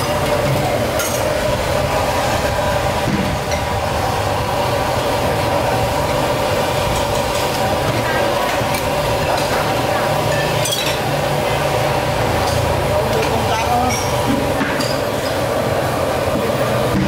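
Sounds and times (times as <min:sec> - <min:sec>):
loud mechanical roar: 0:00.0 - 0:17.0.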